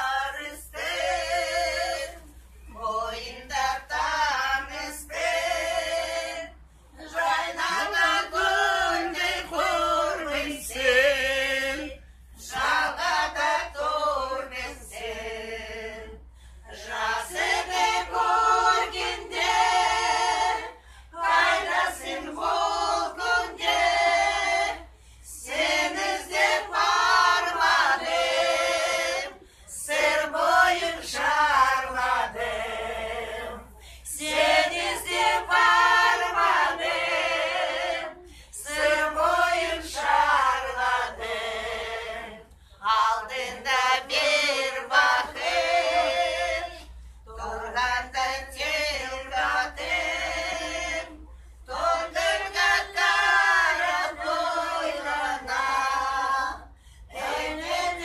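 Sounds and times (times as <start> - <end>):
women singing unaccompanied: 0.0 - 58.0.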